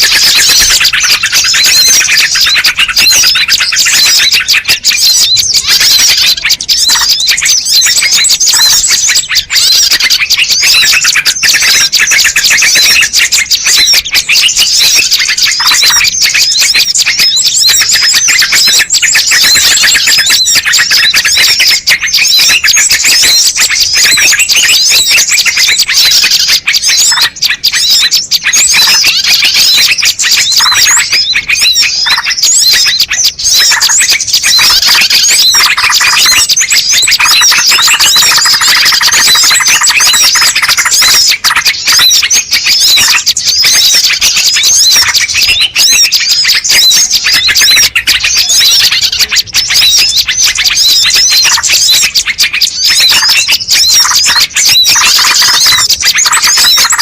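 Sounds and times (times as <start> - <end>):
small birds chirping and twittering: 0.0 - 57.0.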